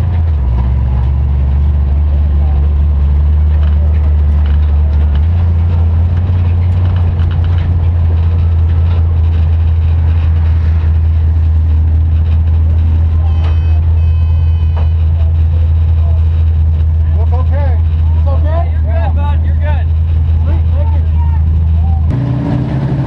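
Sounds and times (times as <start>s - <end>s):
race car engine idling: 0.0s - 22.4s.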